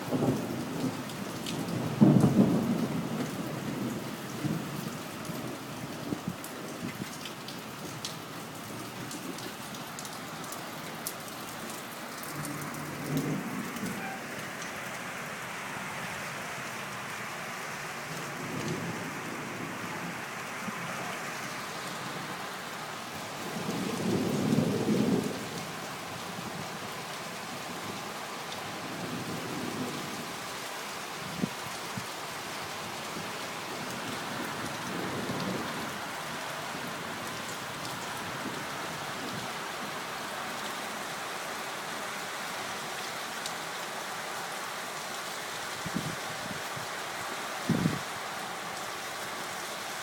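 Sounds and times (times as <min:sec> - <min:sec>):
steady rain: 0:00.0 - 0:50.0.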